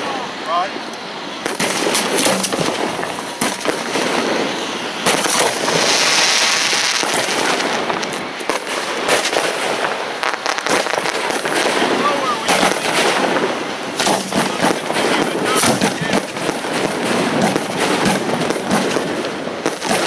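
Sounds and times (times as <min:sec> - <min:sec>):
fireworks shells launching: 0:00.0 - 0:20.0
hissing and crackling sparks: 0:00.0 - 0:20.0.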